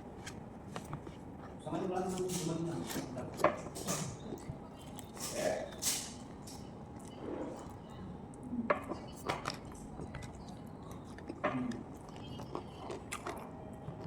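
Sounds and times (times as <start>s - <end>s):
person chewing and eating: 0.0s - 2.2s, 2.8s - 14.0s.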